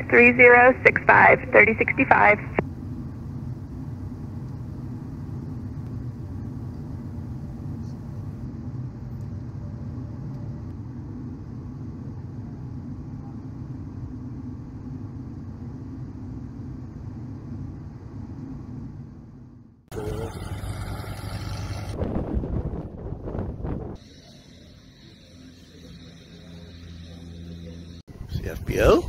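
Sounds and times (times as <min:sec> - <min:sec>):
jet engine rumble in cockpit: 0:00.0 - 0:29.0.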